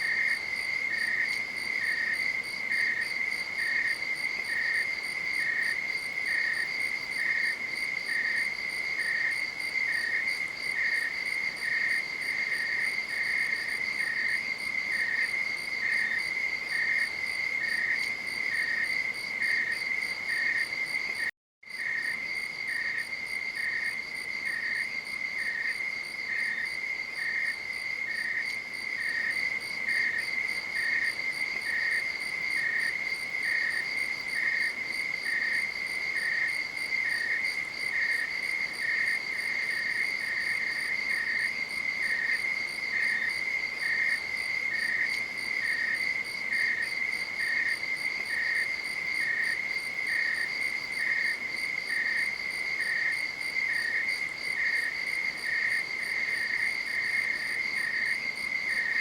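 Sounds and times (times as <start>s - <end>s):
lower pulsing insect chirp: 0.0s - 59.0s.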